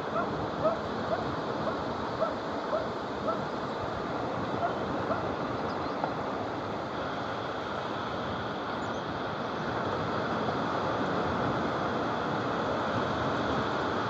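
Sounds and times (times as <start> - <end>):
small waves breaking on beach: 0.0 - 14.0.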